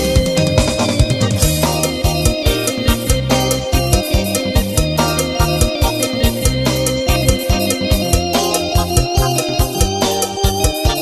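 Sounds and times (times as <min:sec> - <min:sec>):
electronic organ keyboard: 0:00.0 - 0:11.0
steady drum beat: 0:00.0 - 0:11.0.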